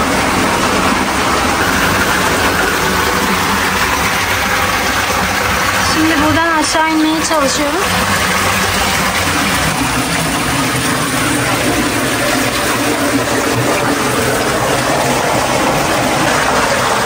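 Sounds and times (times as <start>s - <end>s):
water rushing and churning: 0.0s - 17.0s.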